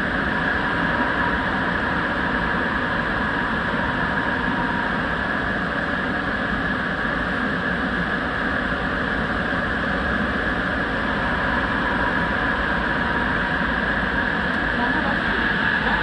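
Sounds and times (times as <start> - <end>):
train running through a tunnel: 0.0 - 16.0.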